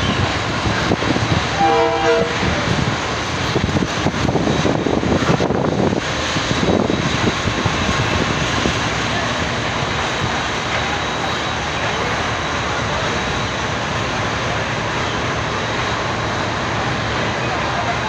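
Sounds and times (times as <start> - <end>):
train coaches rumbling past: 0.0 - 18.0.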